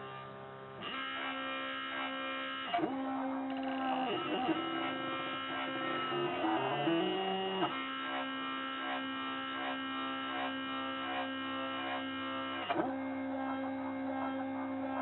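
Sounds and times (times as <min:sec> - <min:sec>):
cnc router motors whining: 0:00.0 - 0:15.0.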